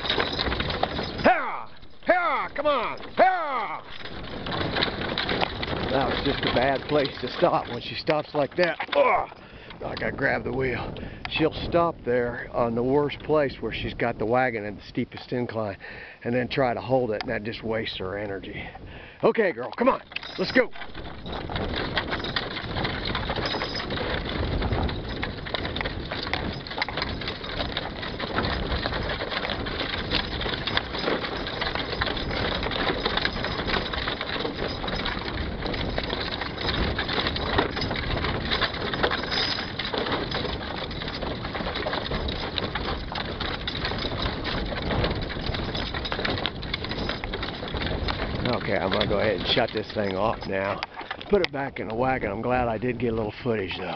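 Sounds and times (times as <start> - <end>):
horse hooves on gravel: 0.0 - 53.9
wagon wheels crunching on gravel: 0.0 - 53.9.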